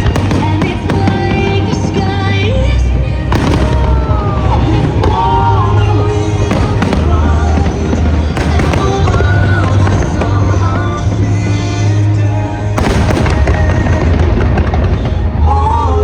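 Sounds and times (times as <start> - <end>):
fireworks bursting: 0.0 - 16.0
loud music with melody: 0.0 - 16.0.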